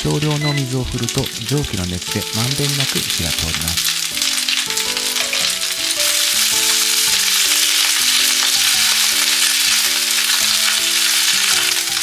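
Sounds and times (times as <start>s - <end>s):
soft background music: 0.0s - 12.0s
vegetables sizzling in a frying pan: 0.0s - 12.0s.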